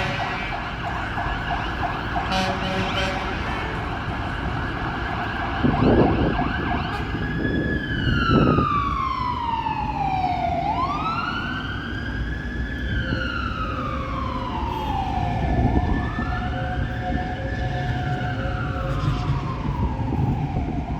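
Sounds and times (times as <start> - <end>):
fire engine siren wailing: 0.0 - 20.9
loud siren blasts: 0.0 - 20.9.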